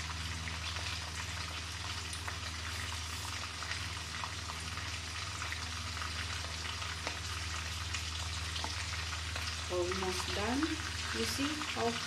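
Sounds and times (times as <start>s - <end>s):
oil popping and crackling: 0.0s - 12.0s
shrimp sizzling in hot oil: 0.0s - 12.0s.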